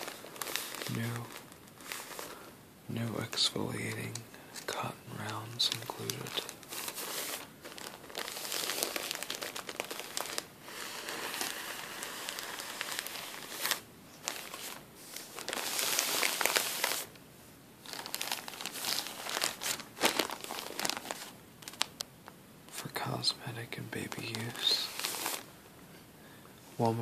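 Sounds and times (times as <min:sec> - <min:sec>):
plastic bag crinkling: 0:00.0 - 0:02.5, 0:03.1 - 0:17.2, 0:17.8 - 0:22.1, 0:24.0 - 0:25.5.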